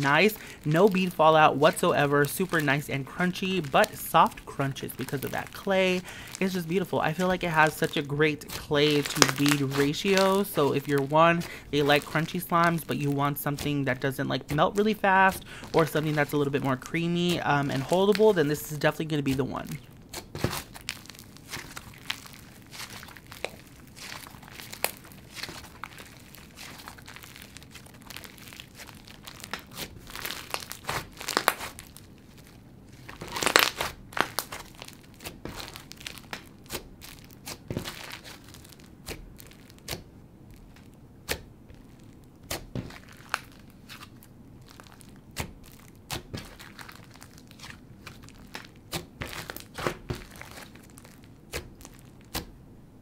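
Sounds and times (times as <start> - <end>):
slime crunching and popping: 0.0 - 52.6.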